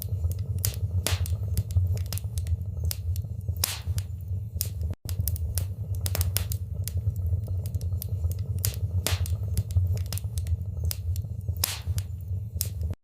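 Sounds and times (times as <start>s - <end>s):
fire flames rumbling: 0.0s - 13.0s
wood fire crackles and pops: 0.0s - 13.0s.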